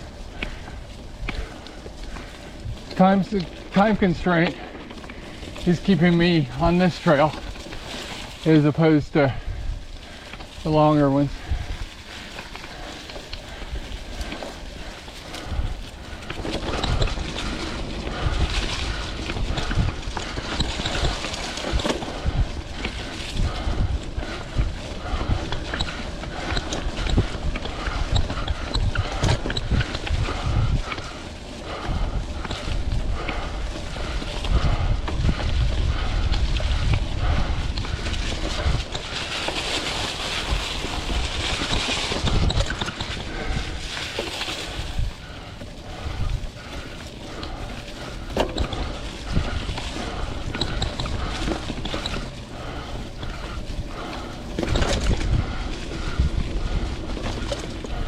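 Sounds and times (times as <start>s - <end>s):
bike rattling over bumps: 0.0s - 58.0s
bike tyre and trail noise: 0.0s - 58.0s
wind buffeting microphone: 0.0s - 58.0s.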